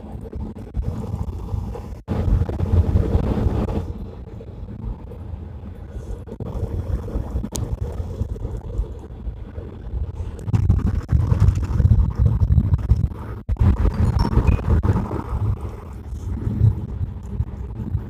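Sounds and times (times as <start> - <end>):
car road and engine rumble: 0.0 - 18.0
wind buffeting microphone: 0.0 - 18.0.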